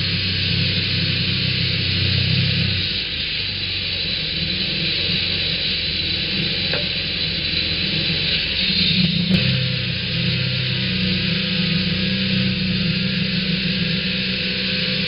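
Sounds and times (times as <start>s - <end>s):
sawmill engine droning: 0.0s - 15.0s.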